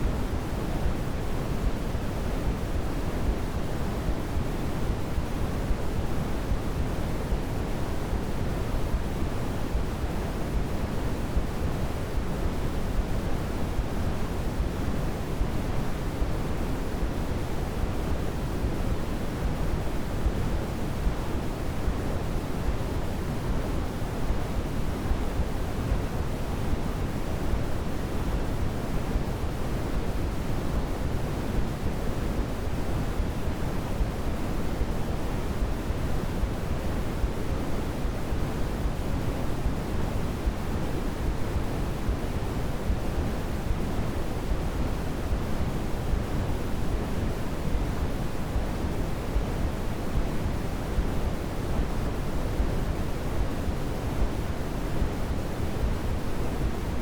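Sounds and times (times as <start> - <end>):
deep white noise hiss: 0.0 - 57.0.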